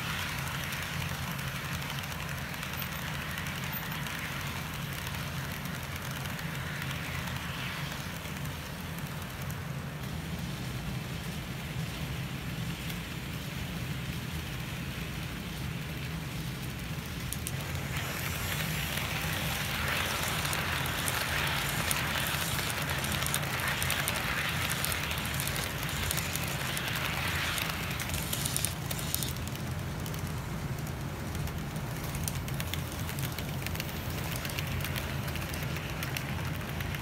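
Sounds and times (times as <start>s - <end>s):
model train wheels rattling on rails: 0.0s - 37.0s.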